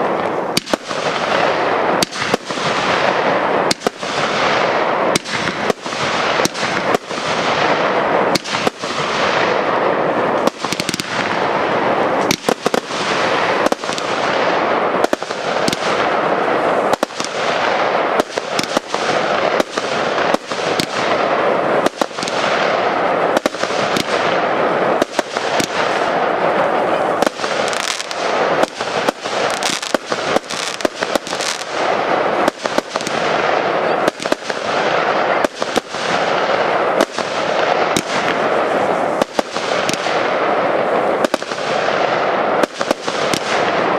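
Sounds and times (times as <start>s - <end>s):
fireworks bursting and crackling: 0.0s - 43.9s
fireworks sharp bangs: 0.0s - 43.9s.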